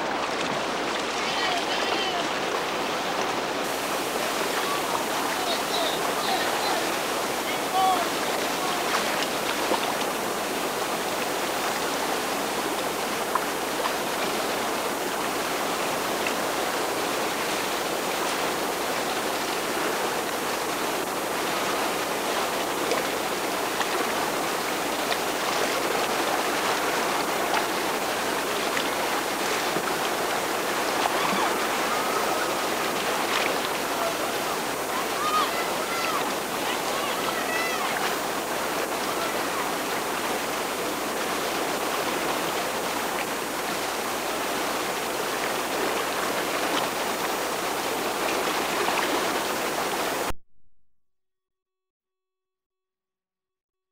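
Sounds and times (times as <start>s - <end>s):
whitewater river rushing: 0.0s - 50.3s.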